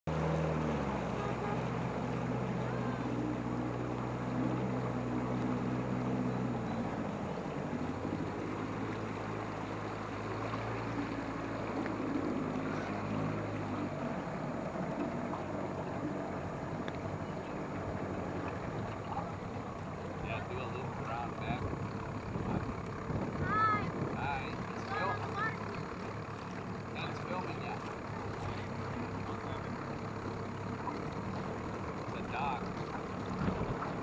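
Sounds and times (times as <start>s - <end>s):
outboard boat motor running: 0.0s - 34.0s
water lapping against hull: 0.0s - 34.0s.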